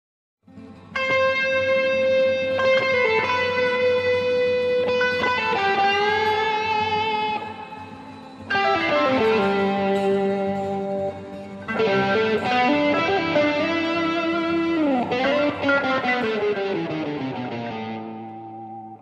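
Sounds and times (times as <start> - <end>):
electric guitar lead notes: 0.5 - 19.0.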